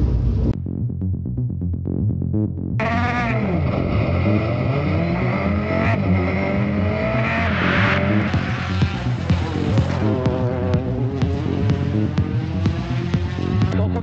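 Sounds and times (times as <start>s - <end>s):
background music with beat: 0.6s - 14.0s
rally car engine revving: 2.2s - 14.0s.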